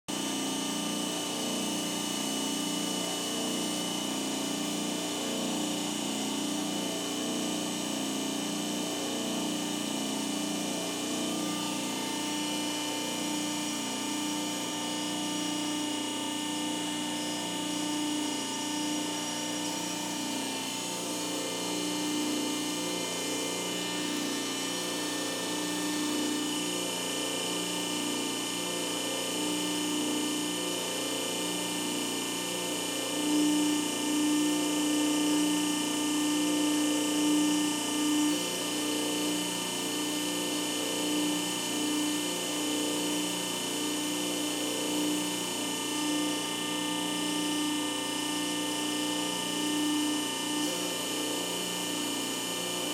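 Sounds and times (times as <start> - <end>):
machine hum with whining tones: 0.1 - 52.9.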